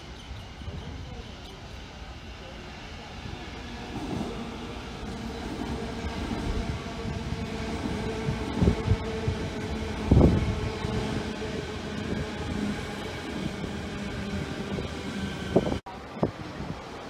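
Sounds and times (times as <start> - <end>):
train moving low hum: 0.0 - 17.0.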